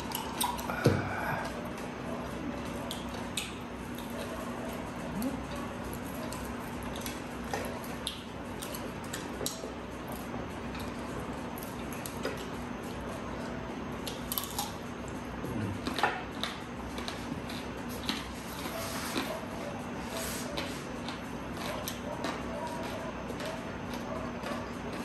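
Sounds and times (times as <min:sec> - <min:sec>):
chewing crispy food: 0:00.0 - 0:25.0.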